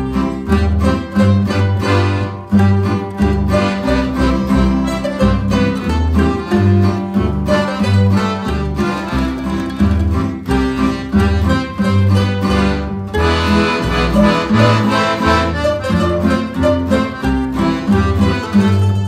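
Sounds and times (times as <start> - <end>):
instrumental folk music: 0.0 - 19.0.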